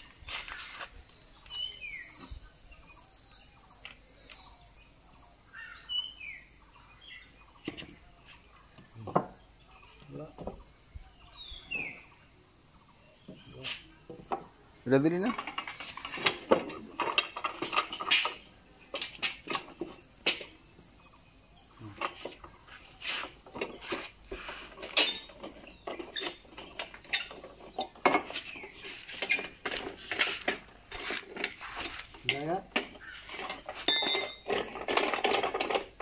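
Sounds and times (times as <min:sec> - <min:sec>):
crickets droning: 0:00.0 - 0:36.0.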